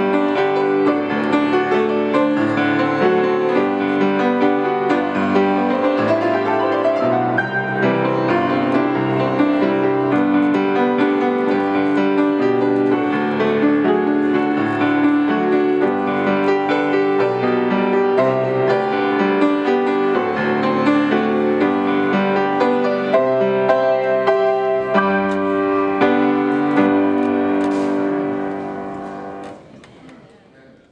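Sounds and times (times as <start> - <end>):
solo piano playing hymn: 0.0 - 29.7.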